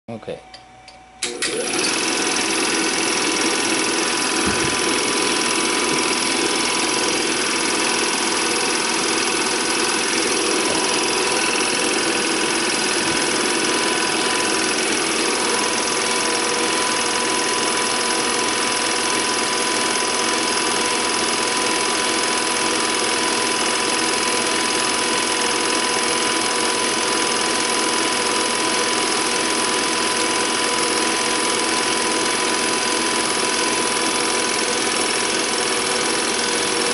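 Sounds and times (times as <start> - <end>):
film projector whirring: 0.9 - 36.9.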